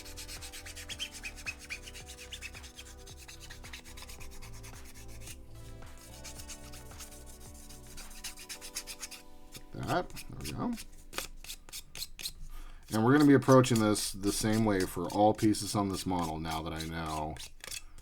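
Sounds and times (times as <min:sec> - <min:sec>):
sanding stick rubbing plastic: 0:00.0 - 0:18.0.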